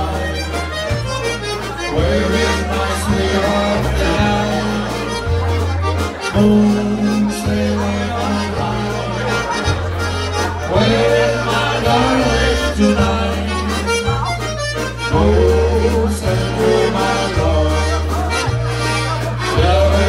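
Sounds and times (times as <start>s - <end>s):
accordion melody: 0.0s - 20.0s
bass guitar: 0.0s - 20.0s
drum kit: 0.0s - 20.0s
live band playing a waltz: 0.0s - 20.0s.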